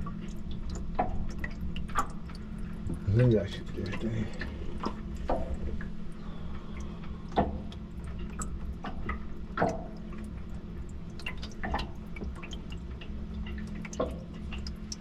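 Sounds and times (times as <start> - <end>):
liquid dripping: 0.0 - 15.0
steady low hum: 0.0 - 15.0.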